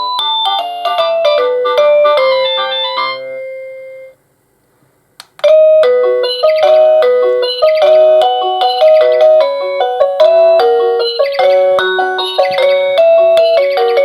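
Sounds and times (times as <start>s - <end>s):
electronic doorbell chime: 0.0s - 4.2s, 5.4s - 14.0s.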